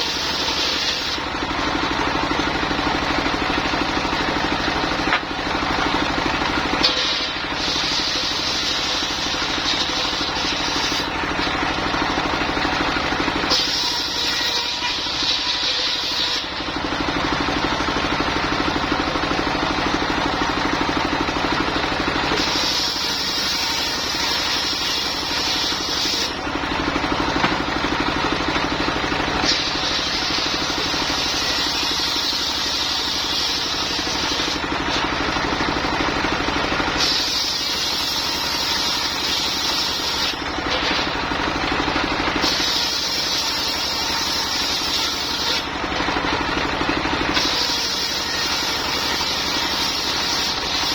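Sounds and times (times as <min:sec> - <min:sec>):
saw blade cutting wood: 0:00.0 - 0:17.3, 0:22.2 - 0:26.5, 0:29.1 - 0:35.7, 0:36.8 - 0:41.2, 0:42.3 - 0:50.9
sawmill engine running: 0:00.0 - 0:50.9.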